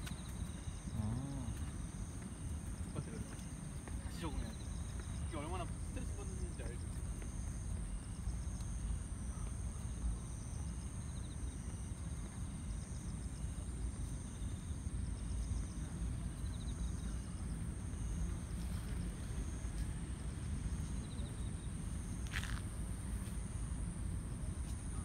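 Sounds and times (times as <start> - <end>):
insects chirping in trills: 0.0 - 25.0.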